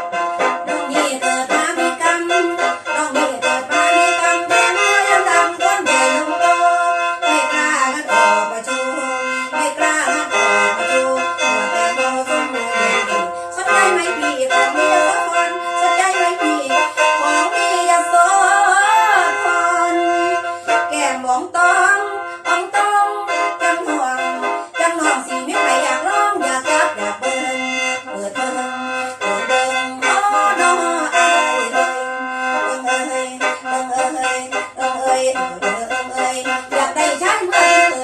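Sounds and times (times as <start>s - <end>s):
mouth organ melody over drone: 0.0s - 38.0s.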